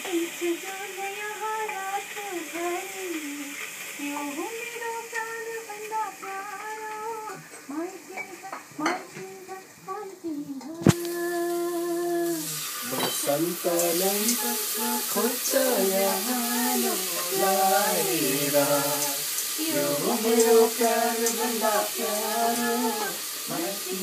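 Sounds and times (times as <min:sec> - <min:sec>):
food sizzling in a pan: 0:00.0 - 0:24.0
woman singing slow melody: 0:00.0 - 0:24.0.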